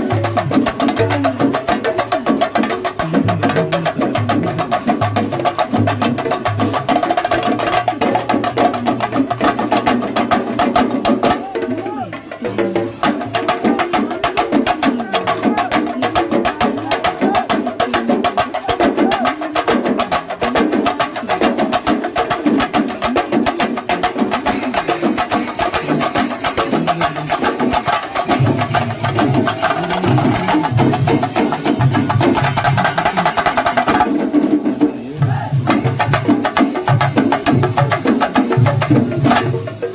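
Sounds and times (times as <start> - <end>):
drums in fast dense rhythm: 0.0 - 39.9.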